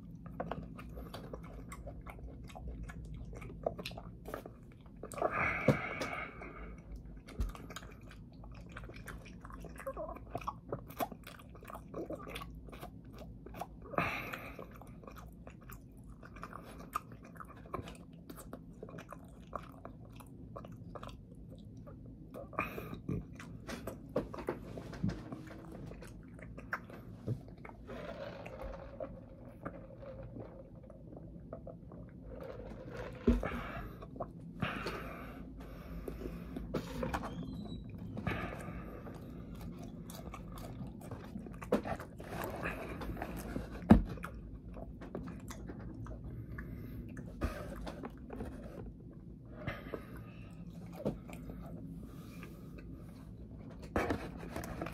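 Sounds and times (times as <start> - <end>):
chewing and mouth sounds: 0.0 - 54.9.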